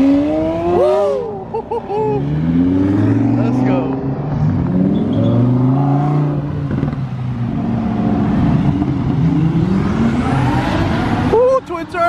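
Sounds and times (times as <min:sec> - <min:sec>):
car engine accelerating hard: 0:00.0 - 0:11.4.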